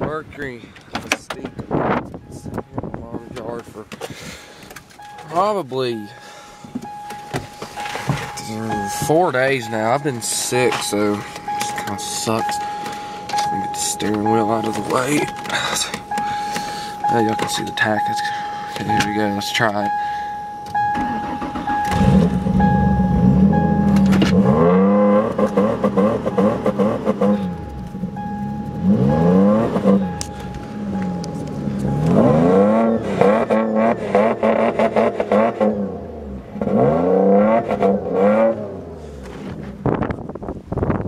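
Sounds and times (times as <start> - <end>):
car engine revving and idling: 5.0 - 40.1.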